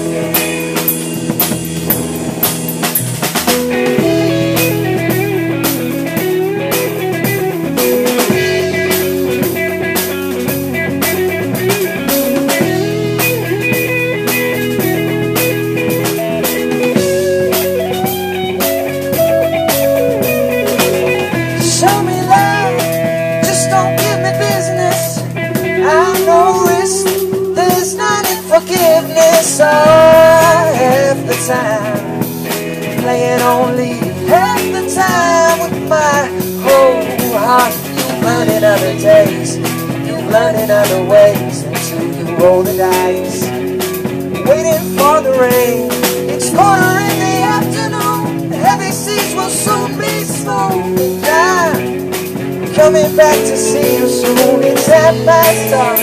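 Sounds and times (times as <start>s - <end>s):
drum kit: 0.0s - 56.0s
electric guitar: 0.0s - 56.0s
keyboard chords: 0.0s - 56.0s.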